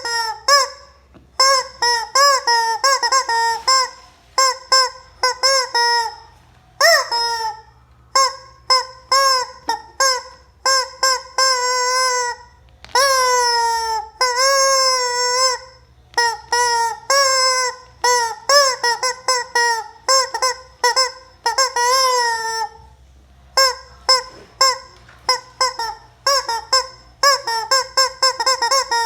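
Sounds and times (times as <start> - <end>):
rubber chicken toy squawking: 0.0 - 29.0.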